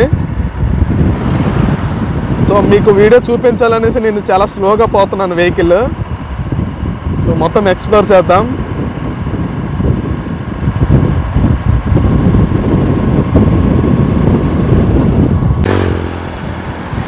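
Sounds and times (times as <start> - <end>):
vehicle engine and road rumble: 0.0 - 17.0
wind buffeting microphone: 0.0 - 17.0.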